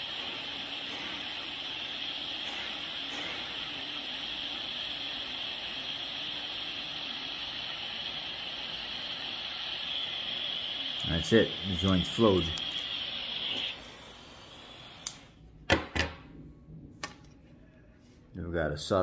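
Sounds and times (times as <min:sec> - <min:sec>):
blowtorch hissing: 0:00.0 - 0:15.4.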